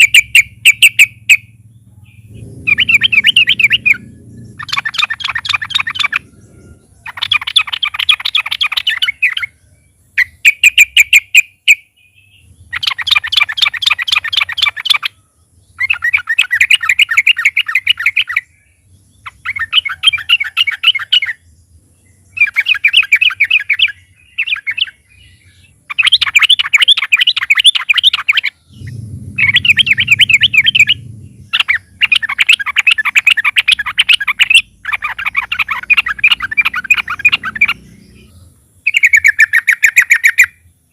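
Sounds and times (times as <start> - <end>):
bird singing bubbling phrases: 0.0 - 21.5, 22.1 - 40.9.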